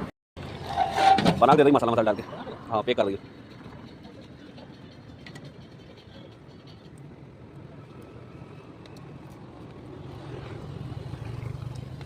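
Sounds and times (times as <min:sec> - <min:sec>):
street traffic noise: 0:00.0 - 0:12.0
vehicle engine hum: 0:01.9 - 0:12.0.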